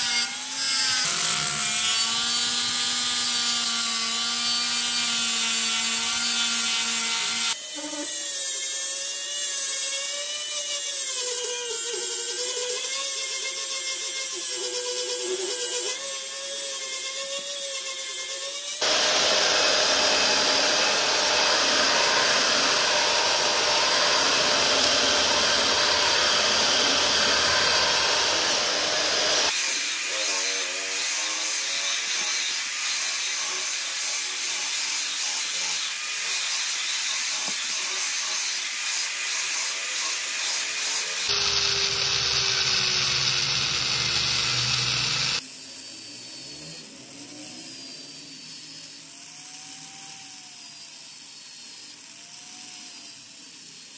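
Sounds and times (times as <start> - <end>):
angle grinder grinding steel: 0.0 - 53.9
rotary tool cut-off disc grinding: 0.0 - 53.9.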